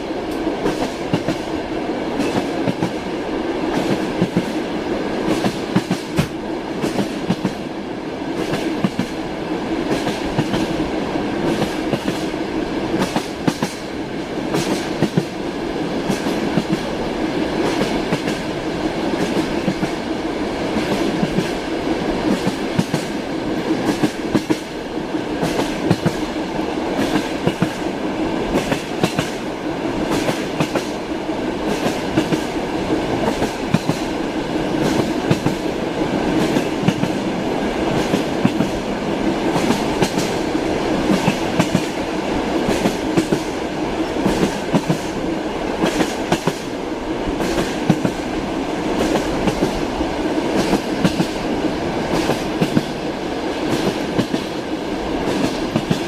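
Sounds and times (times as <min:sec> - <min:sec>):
rolling rumble of railway carriage: 0:00.0 - 0:56.0
train wheels clacking over rails: 0:00.0 - 0:56.0.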